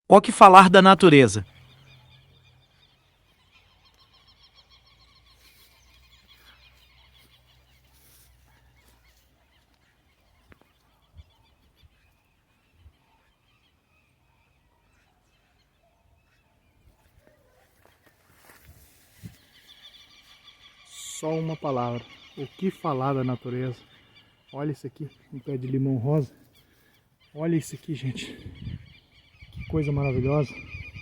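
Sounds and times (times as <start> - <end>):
distant bird calls chattering: 0.8 - 17.6, 18.4 - 31.0.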